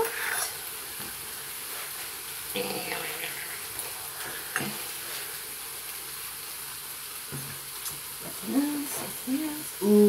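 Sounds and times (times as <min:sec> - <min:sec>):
bacon sizzling in waffle maker: 0:00.0 - 0:10.0.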